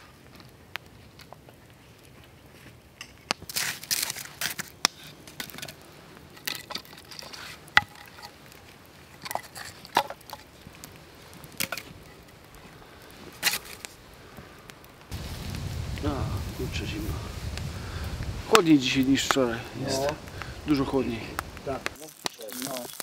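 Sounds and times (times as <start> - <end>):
firewood sticks knocking and crunching: 0.2 - 15.3, 16.9 - 23.0.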